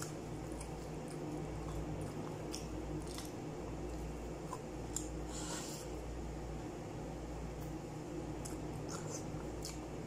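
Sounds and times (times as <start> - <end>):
wet eating squelches and smacks: 0.0 - 6.1, 7.5 - 10.0
steady low hum: 0.0 - 10.0.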